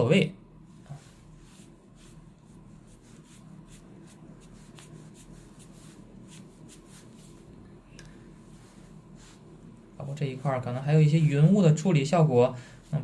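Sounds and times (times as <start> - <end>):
brush strokes on paper: 0.6 - 7.6, 8.2 - 13.0.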